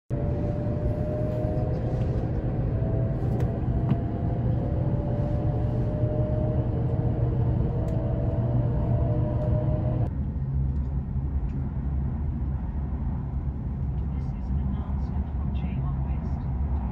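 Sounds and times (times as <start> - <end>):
faint hum: 0.1 - 16.9
train cabin low rumble: 0.1 - 16.9.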